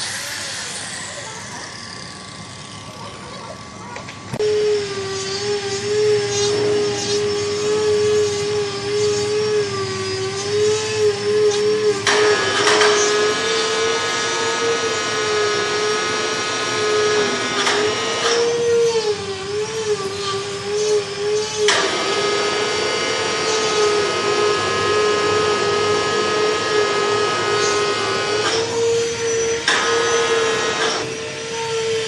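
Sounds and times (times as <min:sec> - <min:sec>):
bursts of harsh noise: 0:00.0 - 0:32.0
power tool motor whining: 0:00.0 - 0:32.0.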